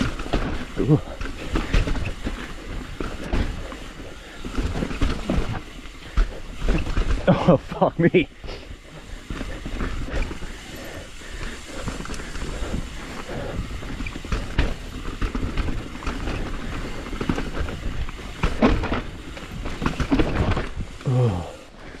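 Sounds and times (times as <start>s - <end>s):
bike frame and chain clattering: 0.0s - 22.0s
bike tyres rumbling on dirt: 0.0s - 22.0s.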